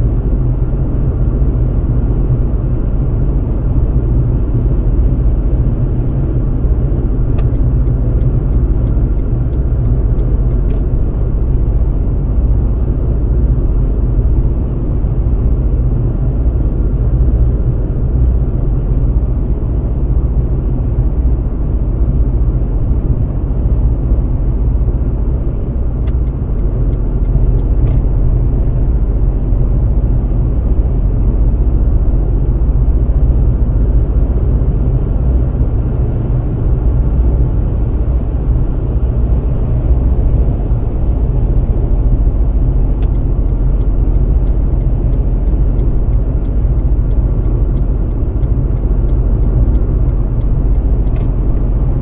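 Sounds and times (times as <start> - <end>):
car engine and tyre noise: 0.0 - 52.0.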